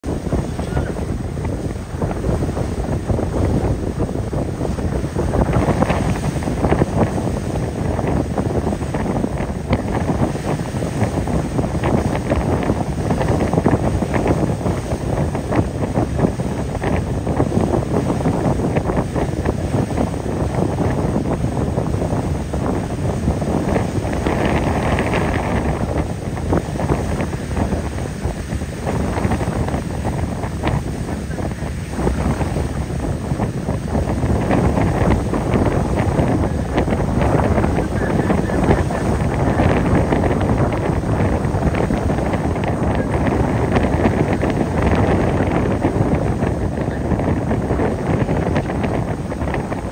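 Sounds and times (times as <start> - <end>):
low rumble of ferry: 0.0 - 49.9
sea water rushing: 0.0 - 49.9
wind buffeting microphone: 0.0 - 49.9.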